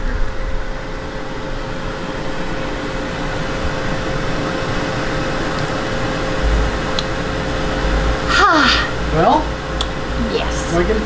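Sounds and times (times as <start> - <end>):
constant hum: 0.0 - 11.0
mechanical whir: 0.0 - 11.0.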